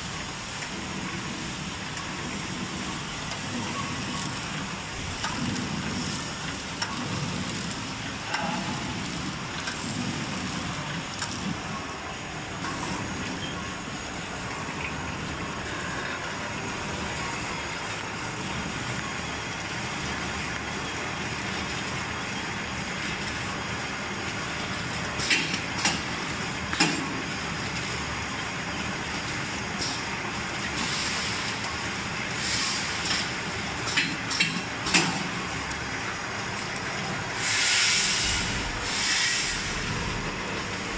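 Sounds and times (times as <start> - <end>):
machine whirring and rattling: 0.0 - 40.9.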